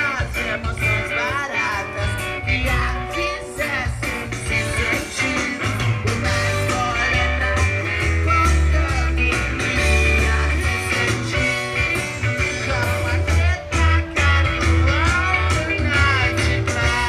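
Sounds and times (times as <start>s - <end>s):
live rock band: 0.0s - 17.0s
man singing: 0.0s - 17.0s.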